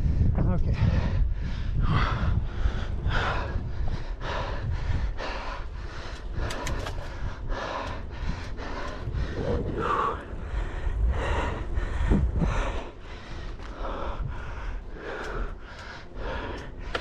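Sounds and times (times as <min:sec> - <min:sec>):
person breathing hard: 0:00.0 - 0:17.0
steady low rumble: 0:00.0 - 0:17.0.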